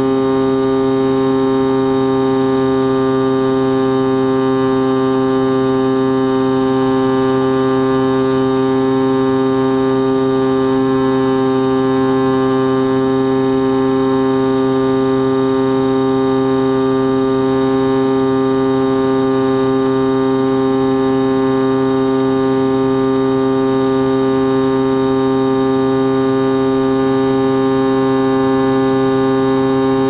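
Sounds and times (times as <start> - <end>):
drone motor and propeller buzzing: 0.0 - 30.0.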